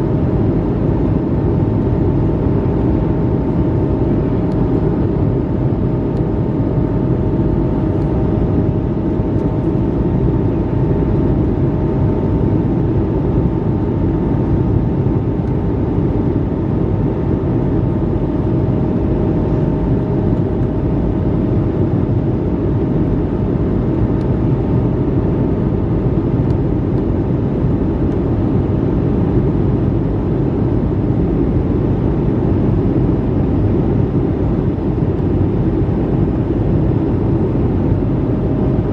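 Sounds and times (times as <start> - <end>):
airliner cabin rumble and hiss: 0.0 - 38.9.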